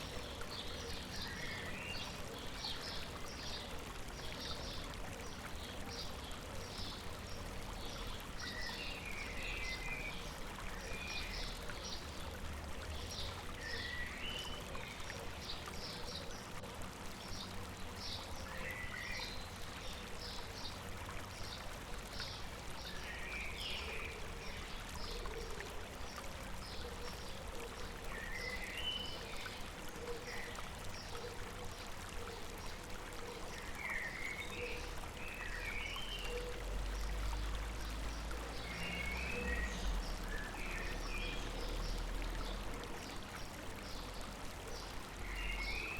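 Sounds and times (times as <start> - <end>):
river water running: 0.0 - 45.9.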